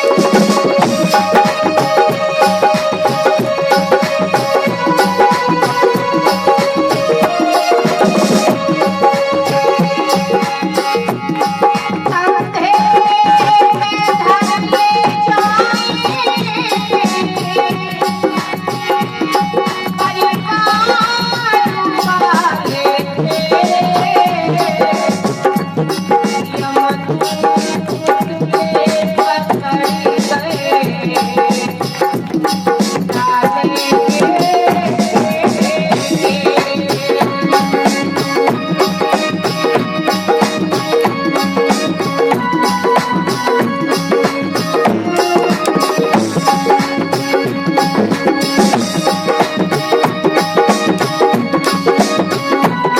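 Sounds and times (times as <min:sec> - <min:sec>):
devotional music melodic lines: 0:00.0 - 0:52.9
tabla rhythm: 0:00.0 - 0:52.9.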